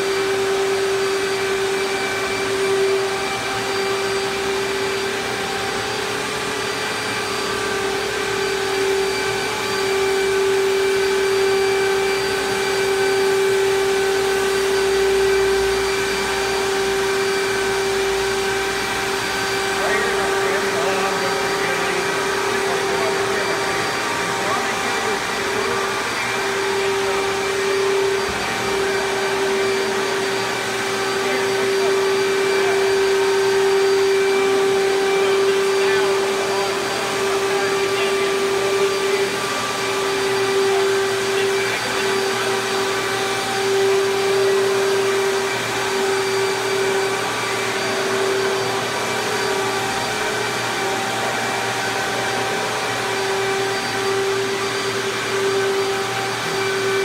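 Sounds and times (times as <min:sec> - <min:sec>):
machine motor droning: 0:00.0 - 0:57.0.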